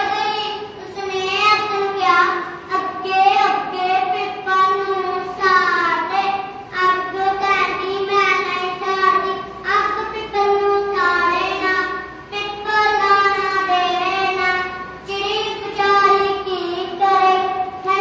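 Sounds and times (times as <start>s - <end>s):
child singing: 0.0s - 18.0s.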